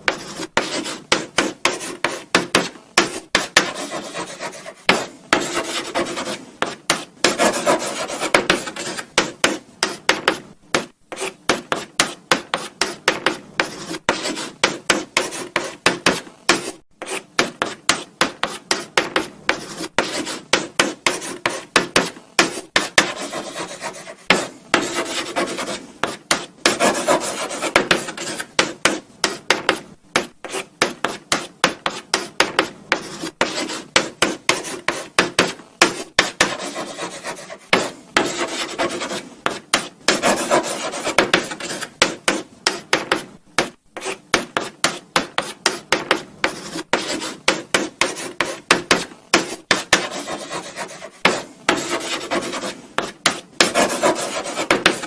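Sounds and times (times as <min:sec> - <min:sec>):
chalk scratching on blackboard: 0:00.1 - 0:55.0.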